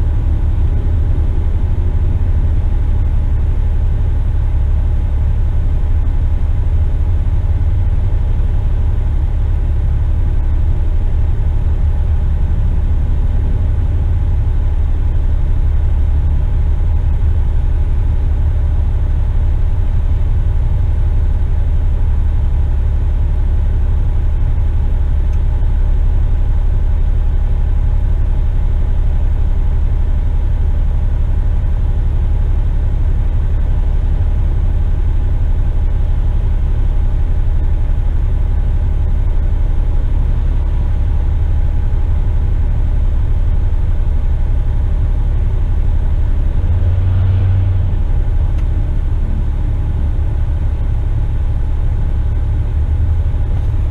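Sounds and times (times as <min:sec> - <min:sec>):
truck diesel engine running: 0:00.0 - 0:53.9.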